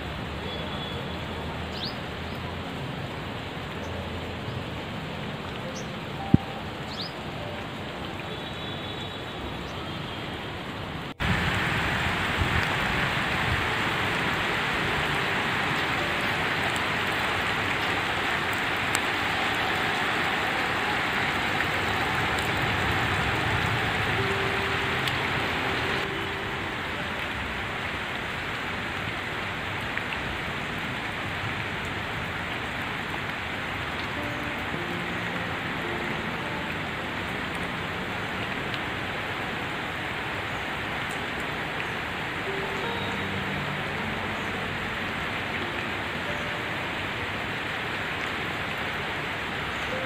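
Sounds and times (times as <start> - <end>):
rain on leaves and pavement: 0.0 - 50.0.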